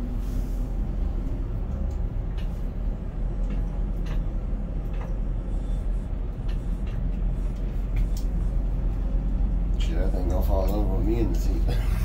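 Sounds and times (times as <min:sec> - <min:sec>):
faint clicks and rattles: 0:01.0 - 0:11.5.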